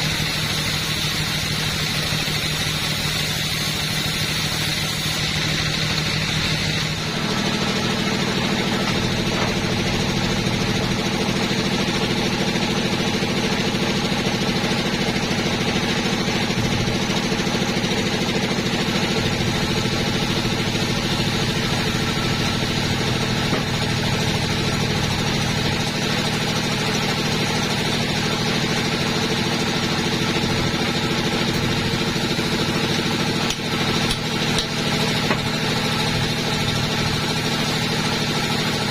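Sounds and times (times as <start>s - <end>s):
two-stroke chainsaw running: 0.0s - 38.9s.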